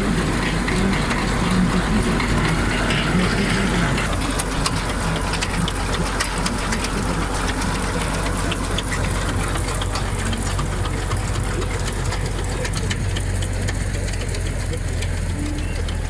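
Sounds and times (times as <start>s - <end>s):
engine humming: 0.0s - 16.0s
small clicks and rattles: 0.0s - 16.0s.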